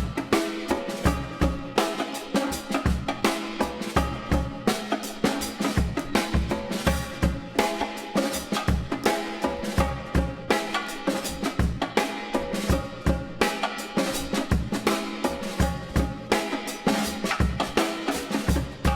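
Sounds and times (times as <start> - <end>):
background music with drum beat: 0.0 - 18.9.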